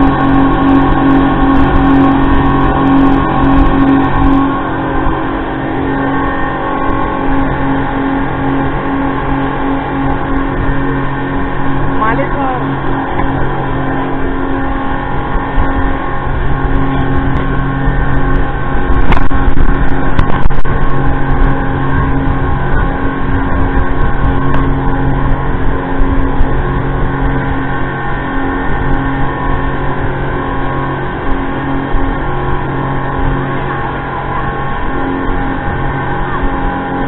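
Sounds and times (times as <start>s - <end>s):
speedboat engine hum: 0.0s - 37.0s
spray and wind rushing: 0.0s - 37.0s.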